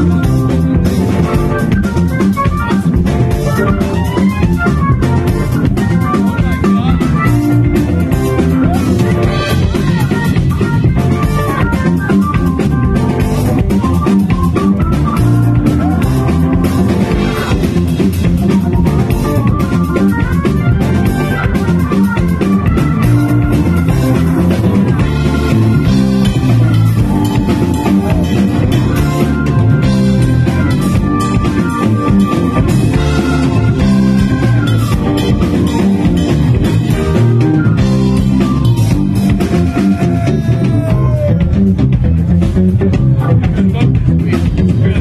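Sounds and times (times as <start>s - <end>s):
electric guitar: 0.0s - 45.0s
funk band playing: 0.0s - 45.0s.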